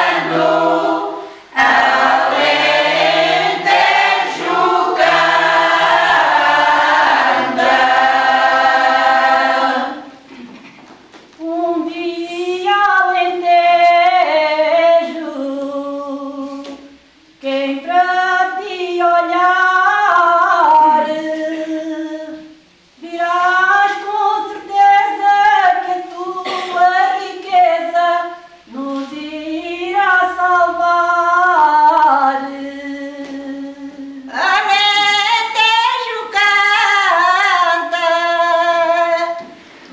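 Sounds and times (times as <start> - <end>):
women's choir singing unaccompanied: 0.0 - 10.3, 11.4 - 39.6.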